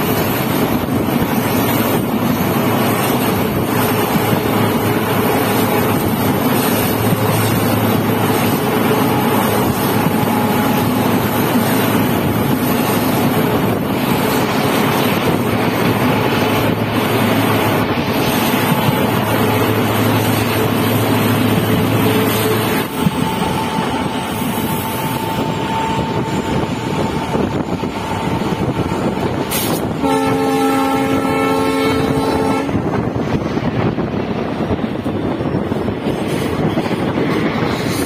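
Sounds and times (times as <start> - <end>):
wind rushing past: 0.0 - 30.1, 31.9 - 38.0
train wheels rumbling on rails: 0.0 - 38.0.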